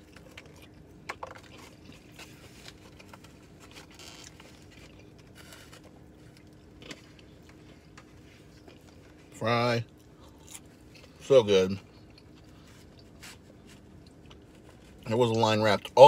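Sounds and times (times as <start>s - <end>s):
chewing crispy food: 0.0s - 16.0s.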